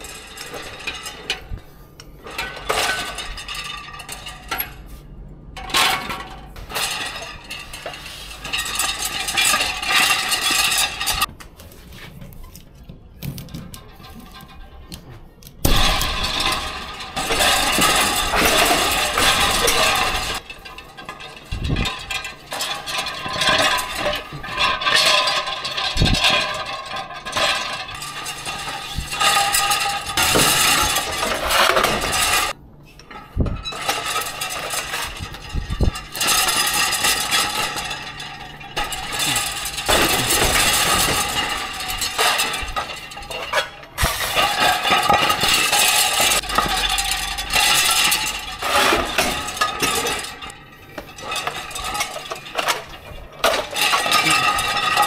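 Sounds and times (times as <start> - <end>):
glass plates rattling and clinking: 0.0 - 1.6, 2.2 - 4.8, 5.6 - 11.3, 15.6 - 55.0.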